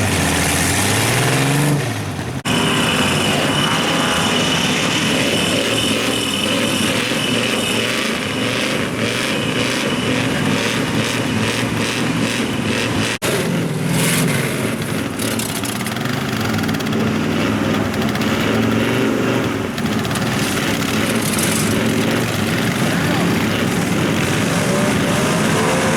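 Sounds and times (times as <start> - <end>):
truck engines revving: 0.0 - 25.9.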